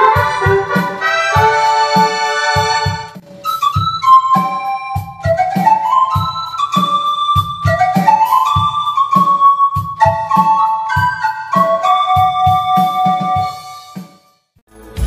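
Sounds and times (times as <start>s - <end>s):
drum and bass beat: 0.0s - 14.1s, 14.7s - 15.0s
synthesizer flute melody: 0.0s - 14.3s.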